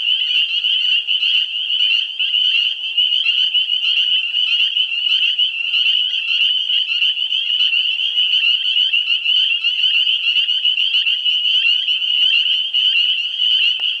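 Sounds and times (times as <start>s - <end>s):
frogs chorus peeping: 0.0s - 14.0s.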